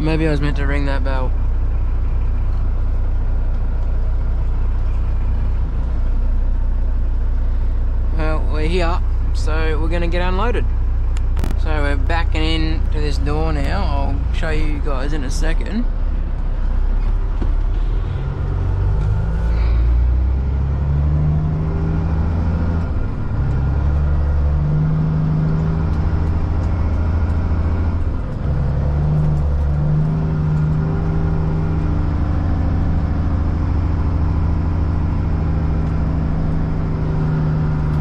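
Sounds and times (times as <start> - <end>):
diesel truck engine revving: 0.0 - 38.0.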